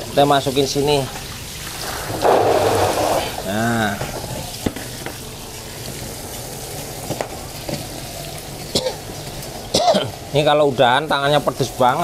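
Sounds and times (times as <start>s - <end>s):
steady crackling hiss: 0.0s - 12.0s.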